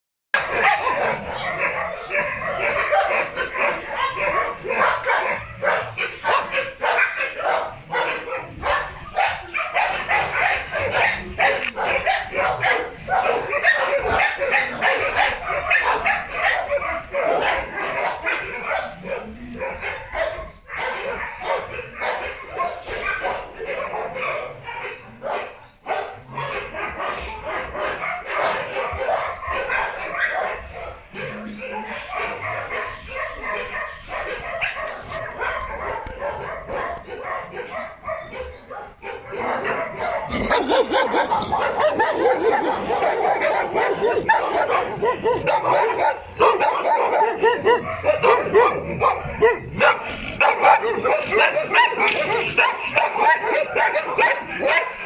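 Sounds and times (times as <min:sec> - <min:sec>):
many dogs barking: 0:00.3 - 0:55.0.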